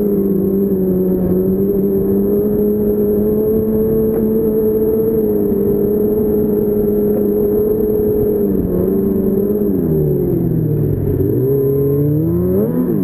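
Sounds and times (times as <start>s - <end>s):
snowmobile engine cruising: 0.0s - 13.0s.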